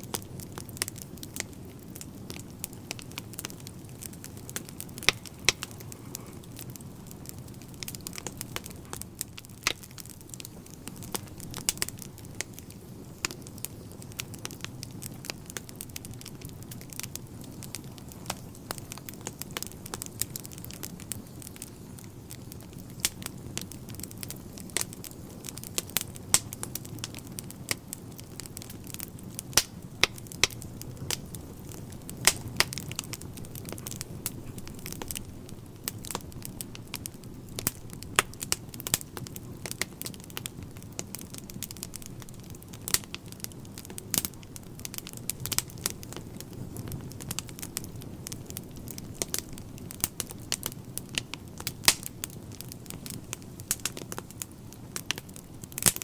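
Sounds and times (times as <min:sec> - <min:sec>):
burning logs crackling and popping: 0:00.0 - 0:56.0
low rush of flames: 0:00.0 - 0:56.0.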